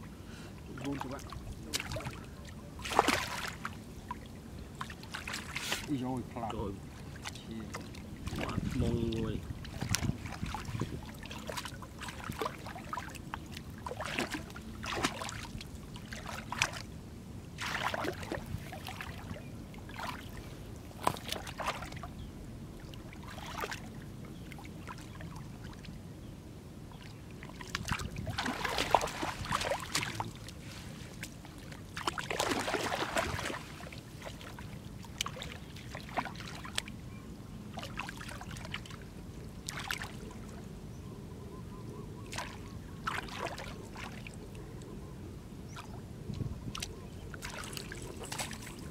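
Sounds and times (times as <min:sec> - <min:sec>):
muddy water splashing: 0:00.7 - 0:16.9, 0:17.6 - 0:22.1, 0:22.9 - 0:25.9, 0:27.0 - 0:37.0, 0:37.7 - 0:40.6, 0:42.2 - 0:44.5, 0:45.7 - 0:48.9.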